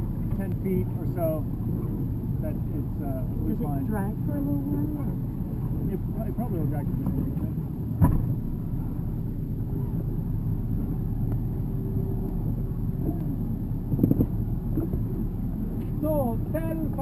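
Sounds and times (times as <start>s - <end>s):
motorboat engine rumbling: 0.0s - 17.0s.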